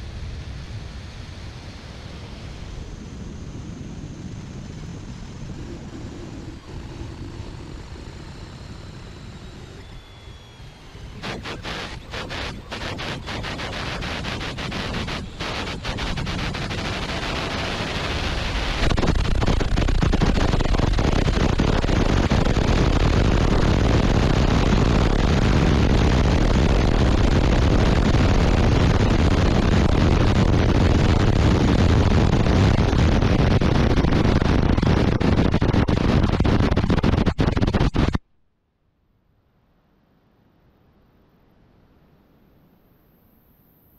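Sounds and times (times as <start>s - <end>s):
loud steady rushing noise: 0.0s - 38.2s.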